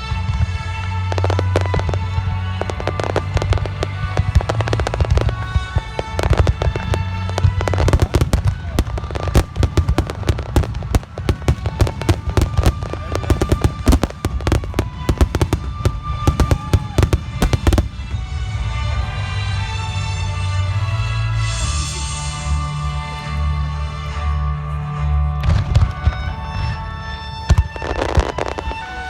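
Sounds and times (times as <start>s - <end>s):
fireworks bangs: 0.0s - 20.0s, 25.4s - 29.0s
music playing: 0.0s - 29.0s.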